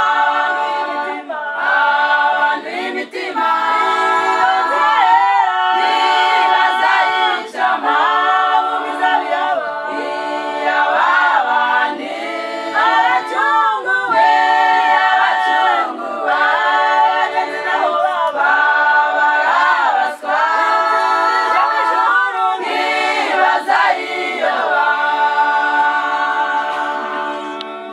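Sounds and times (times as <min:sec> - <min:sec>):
a cappella choir singing: 0:00.0 - 0:27.9.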